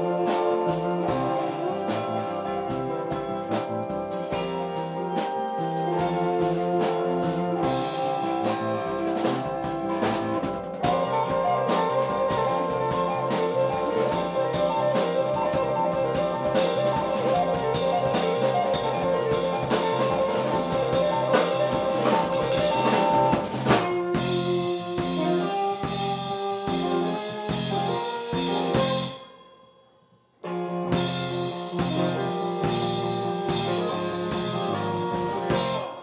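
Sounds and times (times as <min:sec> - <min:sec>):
drum kit beat: 0:00.0 - 0:29.2, 0:30.5 - 0:36.0
electric guitar: 0:00.0 - 0:29.2, 0:30.4 - 0:36.0
horn-like melody line: 0:00.0 - 0:29.2, 0:30.5 - 0:36.0.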